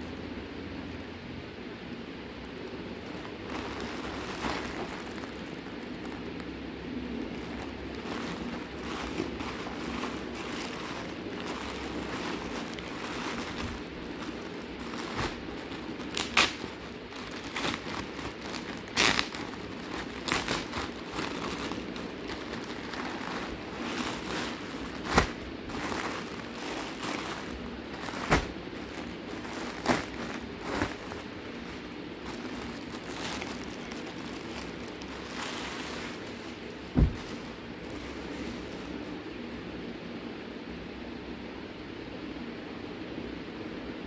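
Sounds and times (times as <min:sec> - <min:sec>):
low background hum: 0:00.0 - 0:44.0
sharp plastic crackles: 0:02.4 - 0:38.1
plastic packaging crinkling: 0:02.6 - 0:38.8.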